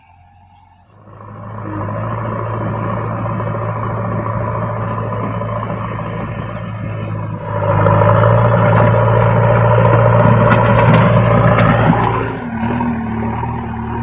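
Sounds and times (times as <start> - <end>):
diesel engine under load: 0.0 - 14.0.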